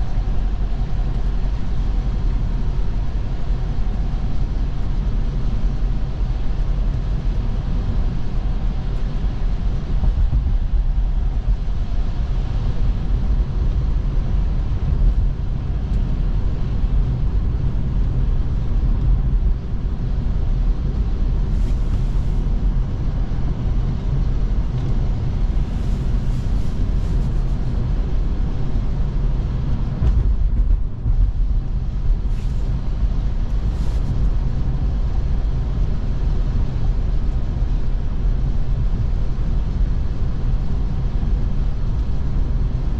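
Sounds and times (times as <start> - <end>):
tyre and road noise: 0.0 - 38.6.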